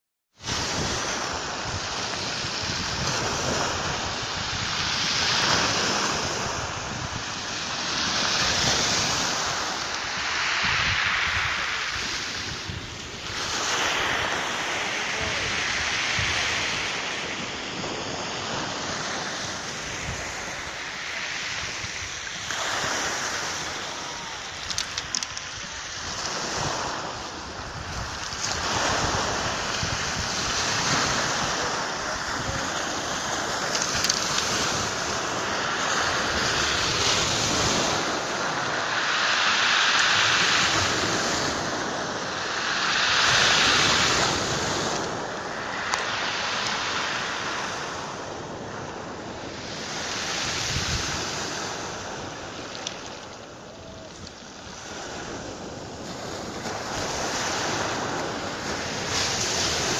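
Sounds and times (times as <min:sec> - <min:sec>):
waves washing up pebble beach: 0:00.4 - 0:59.9
wind buffeting microphone: 0:00.4 - 0:59.9.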